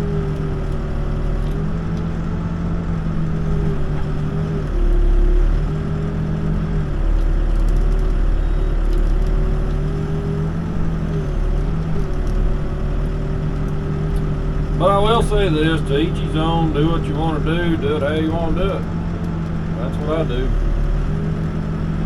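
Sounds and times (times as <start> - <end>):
backhoe diesel engine running: 0.0 - 22.0.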